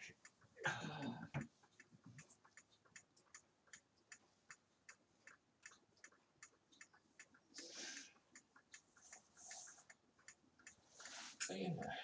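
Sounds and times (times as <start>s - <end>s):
wall clock ticking: 0.0s - 12.0s.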